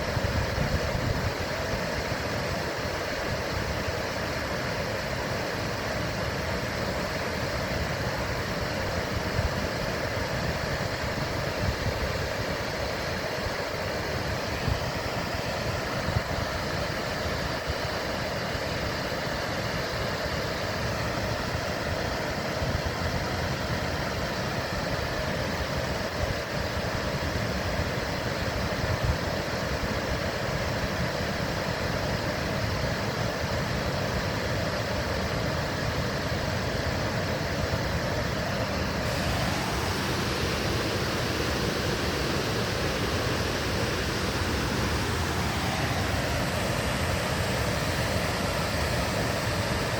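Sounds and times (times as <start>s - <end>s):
river water rushing: 0.8s - 49.9s.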